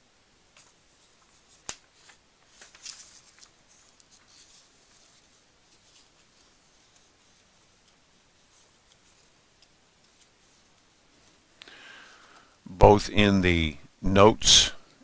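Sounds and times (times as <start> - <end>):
room hiss: 0.0 - 15.0.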